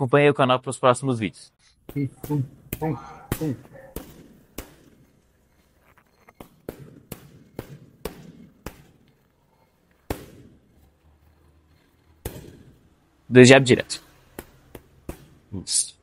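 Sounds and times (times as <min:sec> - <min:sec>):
gloves punching focus mitts: 0:01.8 - 0:13.0, 0:13.7 - 0:15.5.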